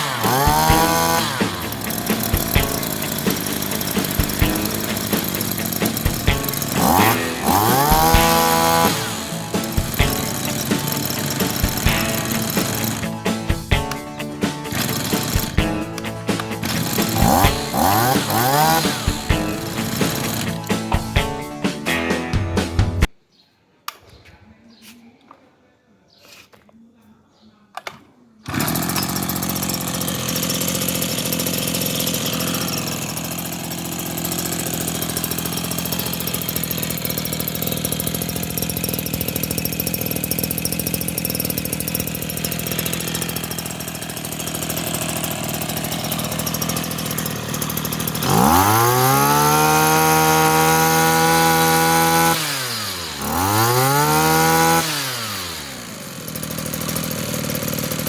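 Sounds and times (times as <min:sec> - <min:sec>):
brush cutter engine revving: 0:00.0 - 0:23.1, 0:27.8 - 0:58.0.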